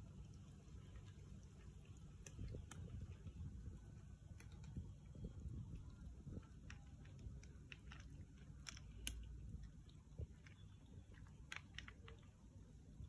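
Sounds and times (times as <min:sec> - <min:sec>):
cats crunching dry kibble: 0:00.0 - 0:13.0.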